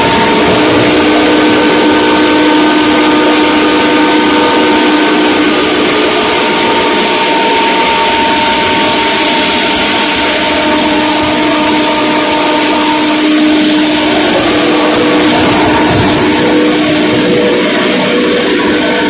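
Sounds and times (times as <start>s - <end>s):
hammer mill rushing and whining: 0.0s - 19.0s.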